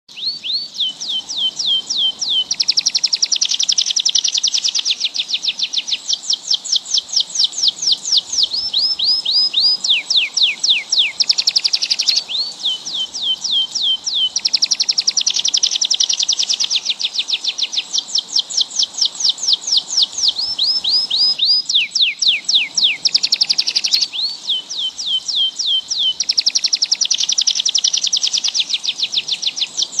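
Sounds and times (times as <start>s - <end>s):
songbird singing: 0.1s - 30.0s.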